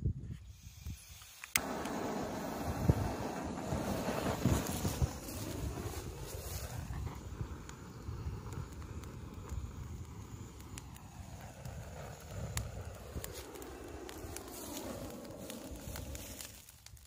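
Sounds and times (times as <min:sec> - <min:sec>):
wind rumbling on microphone: 0:00.0 - 0:17.0
dry leaves crackling in fire: 0:00.5 - 0:17.0.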